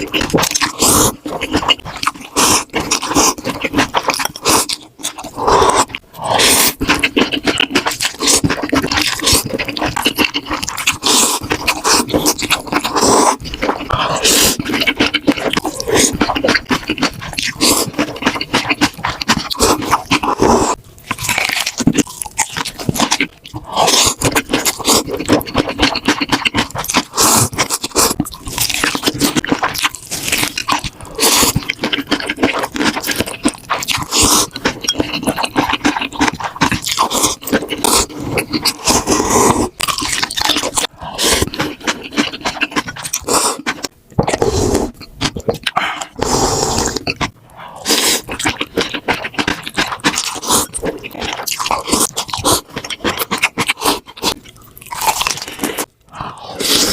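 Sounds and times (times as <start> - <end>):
chewing crunchy food: 0.0 - 56.9.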